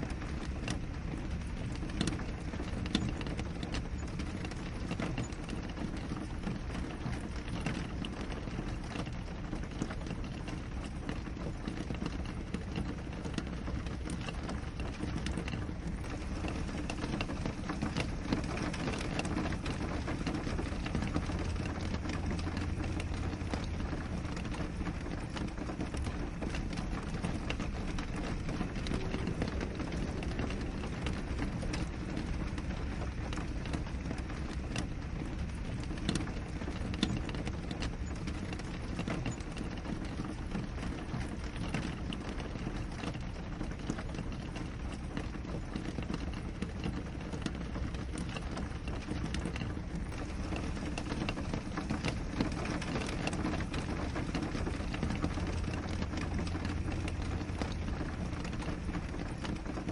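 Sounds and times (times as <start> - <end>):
raindrops tapping on glass: 0.0 - 59.9
steady rainfall: 0.0 - 59.9.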